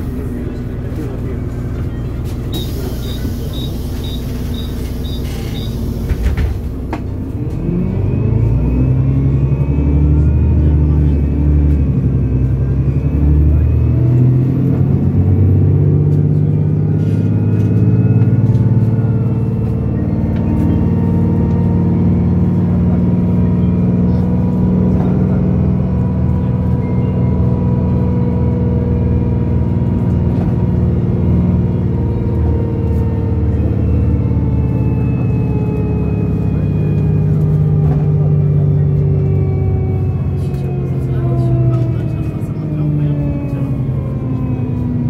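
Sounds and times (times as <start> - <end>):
bus engine drone: 0.0 - 45.0.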